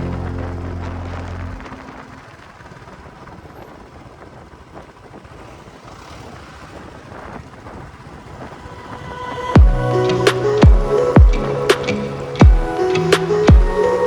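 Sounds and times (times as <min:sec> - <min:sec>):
vehicle running noise: 0:00.0 - 0:13.7.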